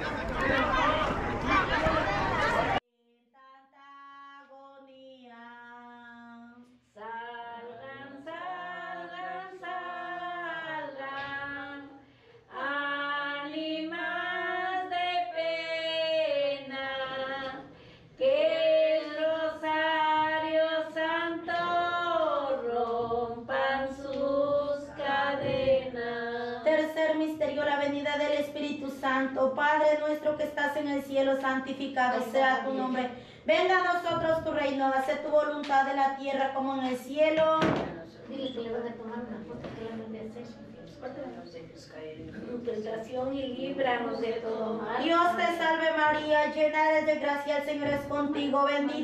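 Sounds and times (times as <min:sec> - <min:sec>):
woman singing a religious song: 0:03.1 - 0:38.0, 0:42.3 - 0:49.0.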